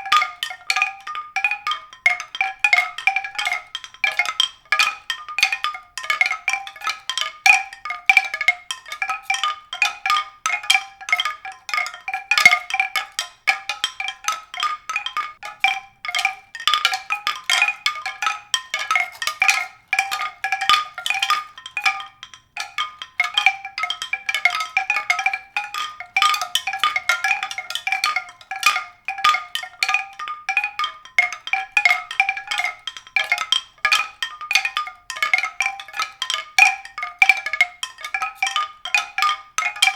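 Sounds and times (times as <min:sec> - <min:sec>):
bell-like percussion notes: 0:00.0 - 0:39.9.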